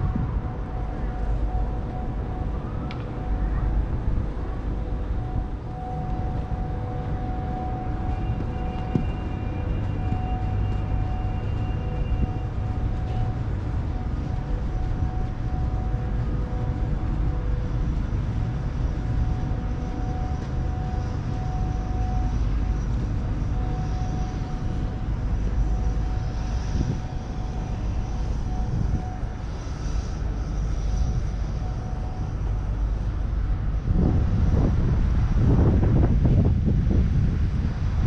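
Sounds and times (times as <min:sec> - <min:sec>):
low city rumble: 0:00.0 - 0:38.0.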